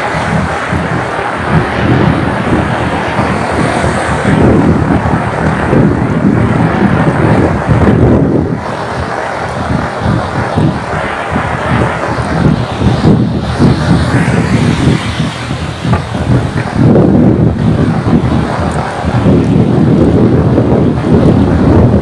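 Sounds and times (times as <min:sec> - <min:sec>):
heavy rain on road: 0:00.0 - 0:22.0
low rumble: 0:00.0 - 0:22.0.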